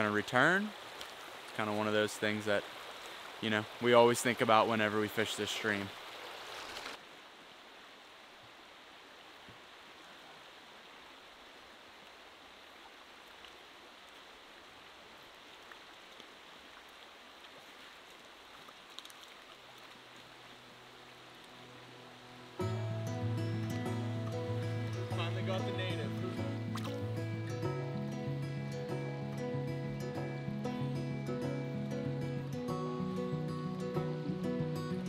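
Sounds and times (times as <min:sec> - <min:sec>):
stream water flowing over riffles: 0:00.0 - 0:35.0.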